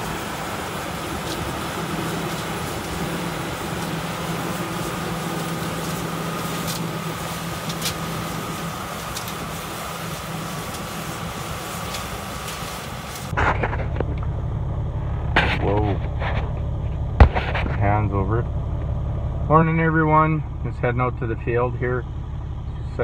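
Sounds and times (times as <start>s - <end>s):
combine harvester engine hum: 0.0s - 23.0s
faint steady whine: 0.0s - 23.0s.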